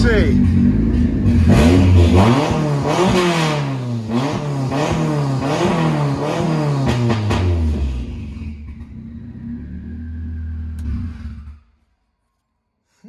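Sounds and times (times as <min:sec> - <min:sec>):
race car engine revving: 0:00.0 - 0:11.8.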